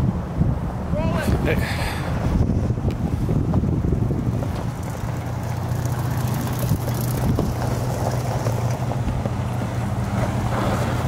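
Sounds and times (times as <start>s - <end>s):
pickup truck engine low hum: 0.0s - 11.0s.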